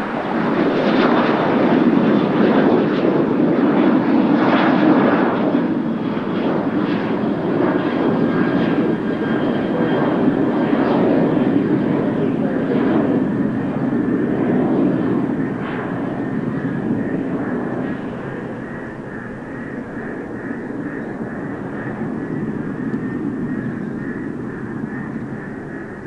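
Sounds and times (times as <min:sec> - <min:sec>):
jet engine rumble with whine: 0:00.0 - 0:26.0.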